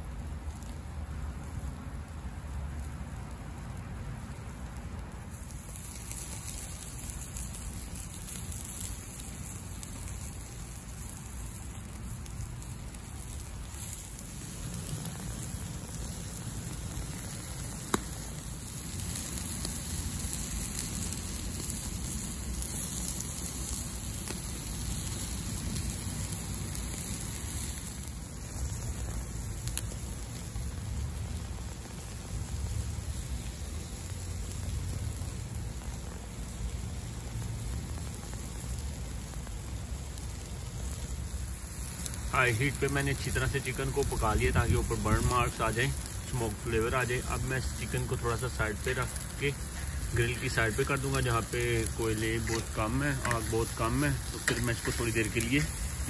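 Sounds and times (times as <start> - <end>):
chicken sizzling on grill: 0.0 - 56.0.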